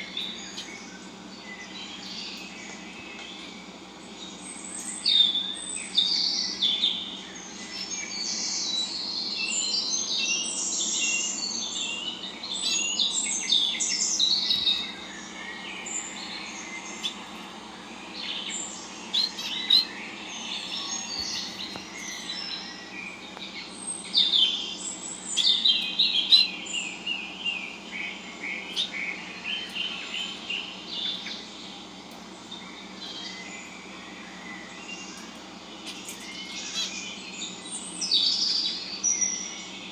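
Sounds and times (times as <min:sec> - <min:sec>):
steady low hum: 0:00.0 - 0:37.8
small birds chirping: 0:00.0 - 0:39.9.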